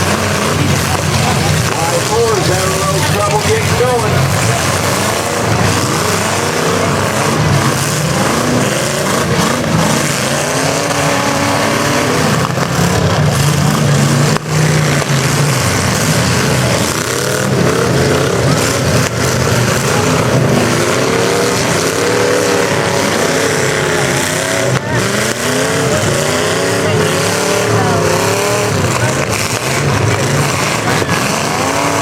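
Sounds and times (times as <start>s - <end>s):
car engines revving hard: 0.0s - 32.0s.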